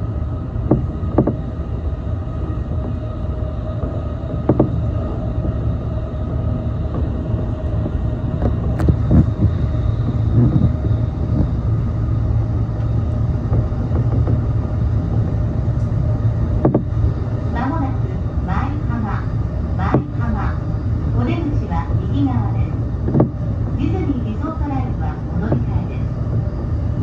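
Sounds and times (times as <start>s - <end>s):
faint steady hum: 0.0s - 27.0s
train rumbling across a bridge: 0.0s - 27.0s.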